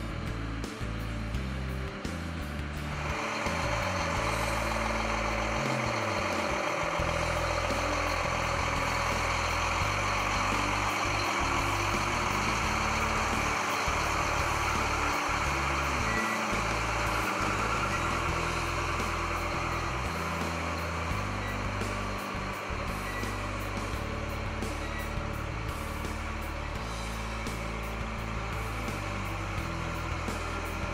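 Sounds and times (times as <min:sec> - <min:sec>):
background music: 0:00.0 - 0:30.9
tractor diesel engine running: 0:00.0 - 0:30.9.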